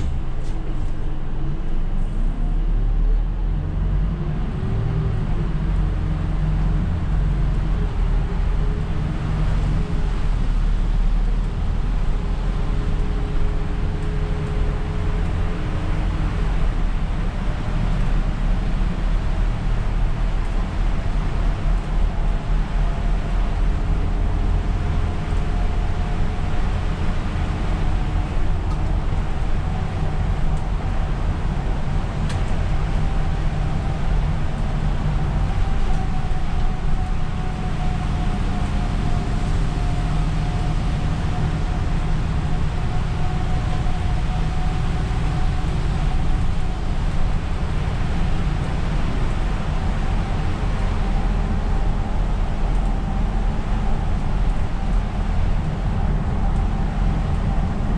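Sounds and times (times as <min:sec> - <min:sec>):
bus engine rumble: 0:00.0 - 0:57.9.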